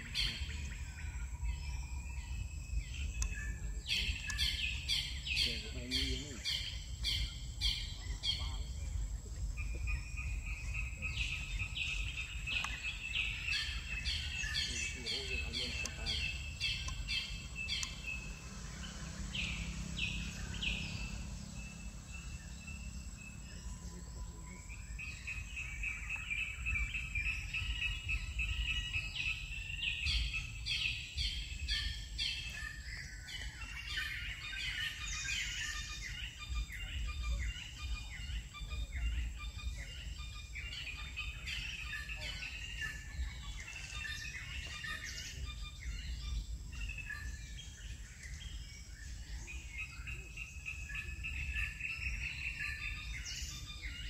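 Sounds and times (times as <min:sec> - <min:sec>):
birds chirping and calling: 0:00.0 - 0:54.0
high bird trill: 0:00.0 - 0:54.0
low wind rumble: 0:00.0 - 0:54.0.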